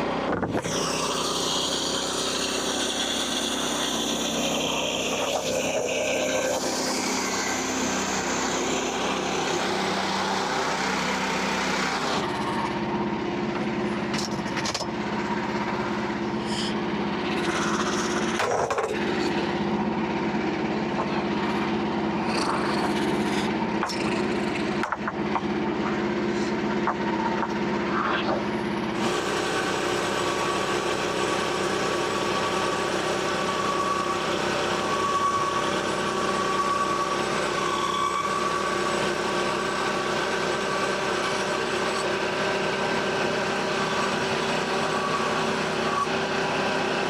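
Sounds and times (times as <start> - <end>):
small engine sawing wood: 0.0 - 47.0.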